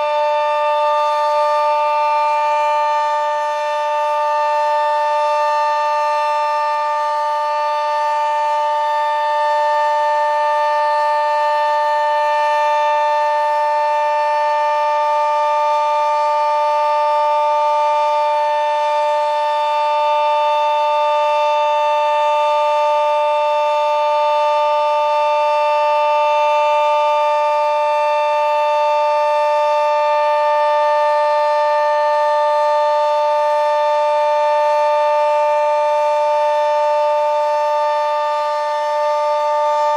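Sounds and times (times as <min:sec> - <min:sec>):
siren steady two-note chord: 0:00.0 - 0:39.9.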